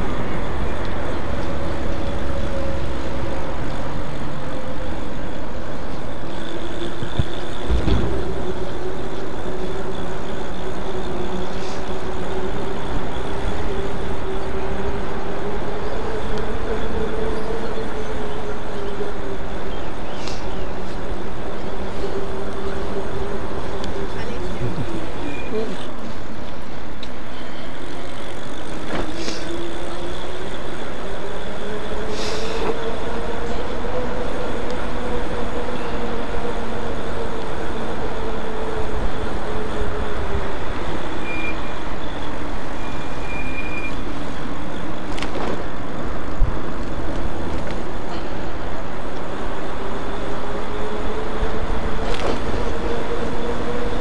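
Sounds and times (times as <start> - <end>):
electric bike motor whining: 0.0 - 54.0
wind and road noise: 0.0 - 54.0.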